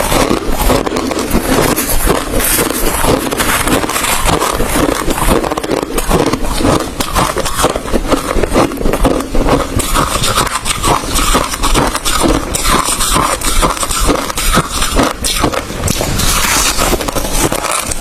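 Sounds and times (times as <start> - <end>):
person crunching ice: 0.0 - 18.0.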